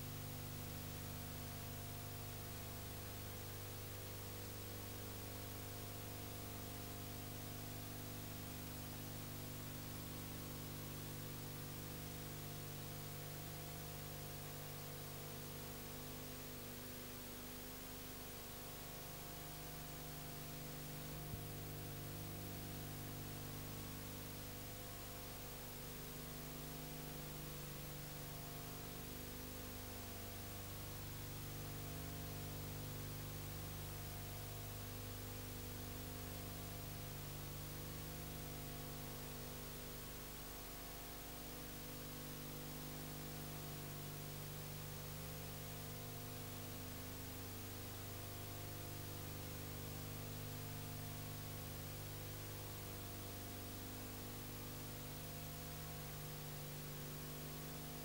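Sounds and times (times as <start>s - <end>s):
electrical mains hum with hiss: 0.0s - 58.0s.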